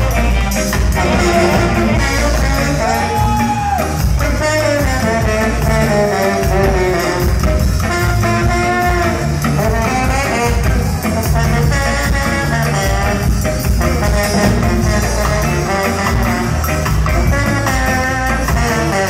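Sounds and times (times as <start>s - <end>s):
horn section: 0.0s - 19.0s
live ska band playing: 0.0s - 19.0s.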